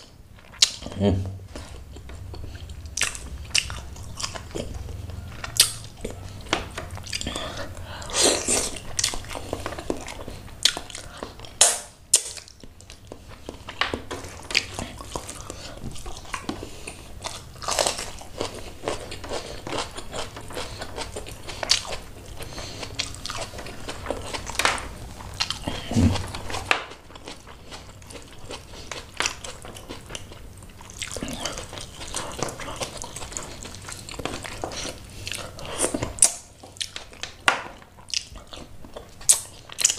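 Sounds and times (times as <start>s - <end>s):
chewing and mouth smacking: 0.4s - 39.9s.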